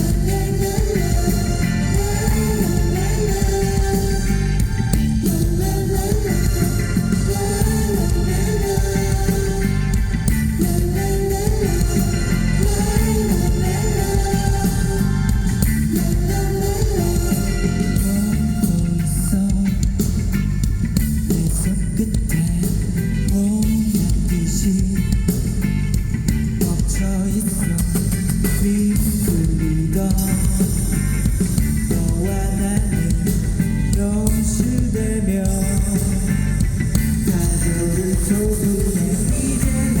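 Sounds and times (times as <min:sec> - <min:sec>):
live rock band playing: 0:00.0 - 0:40.0.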